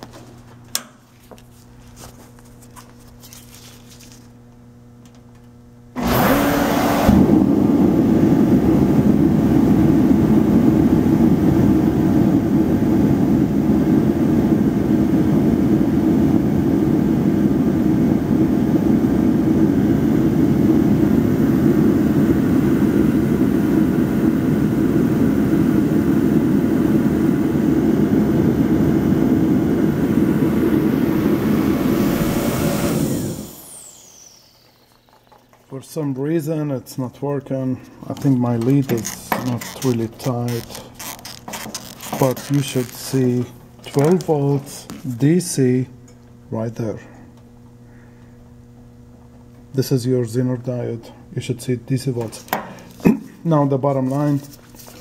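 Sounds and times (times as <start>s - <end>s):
heater fan and burner rushing: 0.0s - 55.0s.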